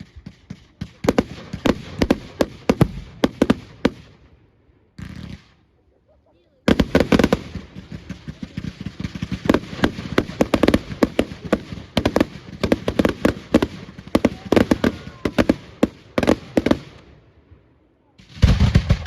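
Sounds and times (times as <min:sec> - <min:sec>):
fireworks bangs and crackles: 0:00.0 - 0:05.6, 0:06.6 - 0:19.0.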